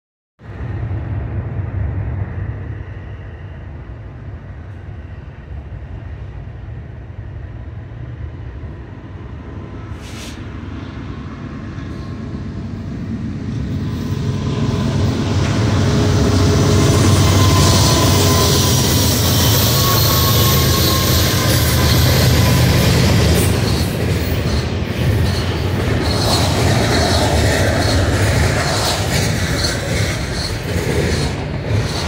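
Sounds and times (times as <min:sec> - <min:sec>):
freight train low rumble: 0:00.4 - 0:32.0.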